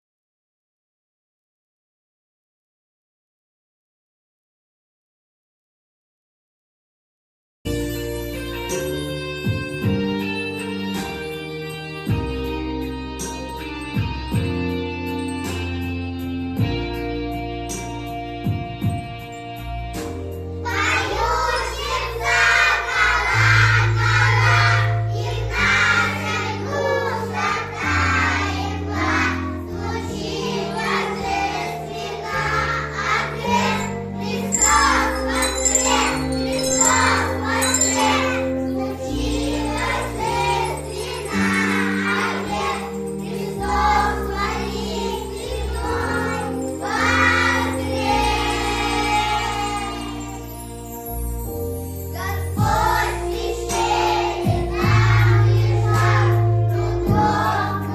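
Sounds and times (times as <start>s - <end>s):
instrumental accompaniment with bass: 7.7s - 57.9s.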